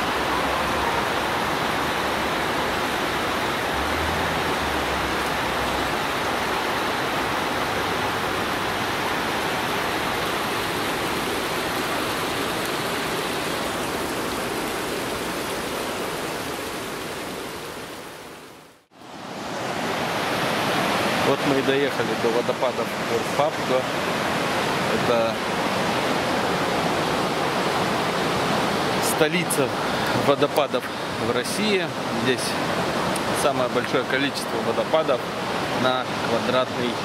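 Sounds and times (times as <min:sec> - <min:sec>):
river rushing over rapids: 0:00.0 - 0:37.0.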